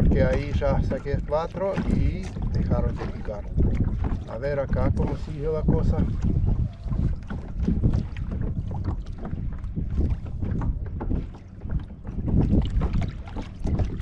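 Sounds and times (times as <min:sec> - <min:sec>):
water lapping against hull: 0:00.0 - 0:14.0
wind buffeting microphone: 0:00.0 - 0:14.0.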